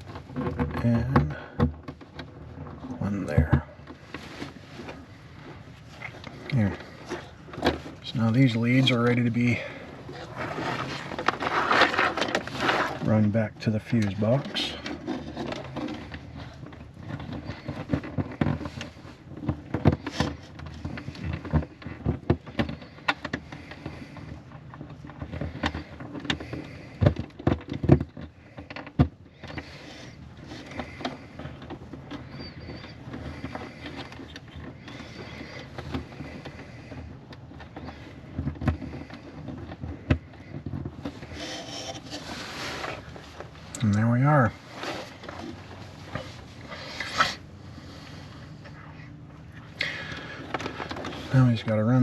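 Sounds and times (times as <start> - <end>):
wires being handled: 1.9 - 52.0.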